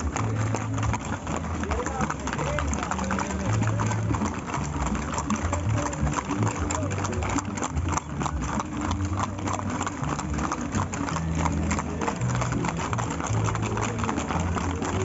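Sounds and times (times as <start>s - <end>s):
horse hooves clip-clopping: 0.0s - 15.0s
music playing: 0.0s - 15.0s.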